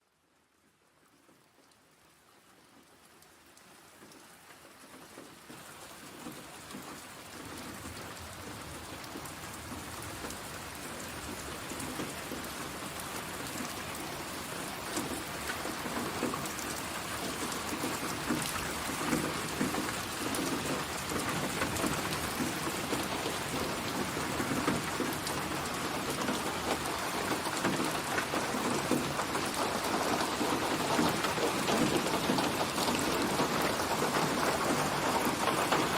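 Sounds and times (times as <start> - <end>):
rain pattering: 0.0 - 35.9.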